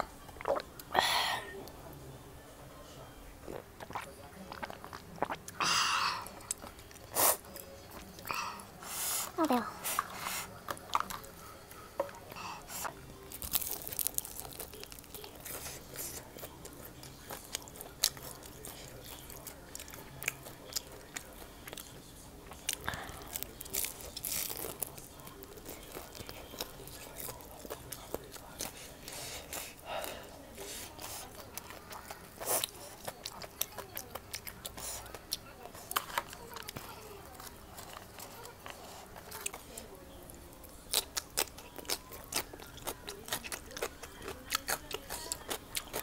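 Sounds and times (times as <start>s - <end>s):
person chewing and crunching food: 0.2s - 1.0s, 3.4s - 46.0s.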